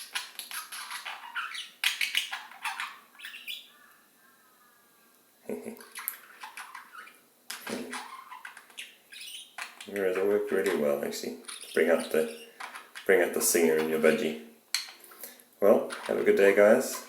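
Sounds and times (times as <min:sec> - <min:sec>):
budgerigars chirping: 0:00.0 - 0:04.4, 0:05.8 - 0:17.0.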